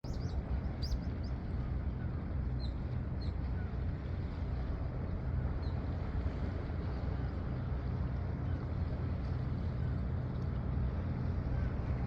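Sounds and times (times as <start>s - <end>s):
low seaside rumble: 0.0s - 12.0s.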